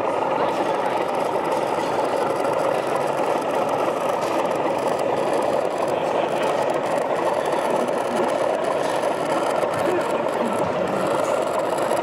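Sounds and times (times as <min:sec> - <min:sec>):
model train running: 0:00.0 - 0:12.0.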